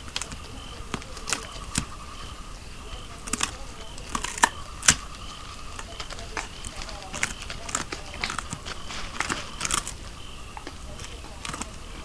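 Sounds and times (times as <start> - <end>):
night insects chirping: 0.0 - 12.0
sharp clicks and ticks: 0.0 - 12.0.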